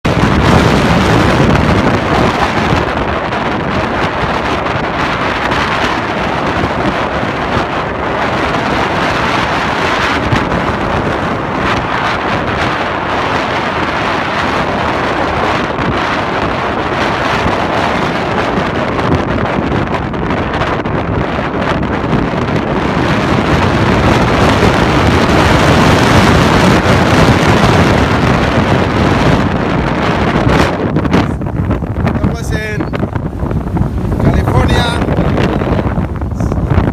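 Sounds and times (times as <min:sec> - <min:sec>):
ocean surf: 0:00.0 - 0:36.9
wind buffeting microphone: 0:00.0 - 0:36.9.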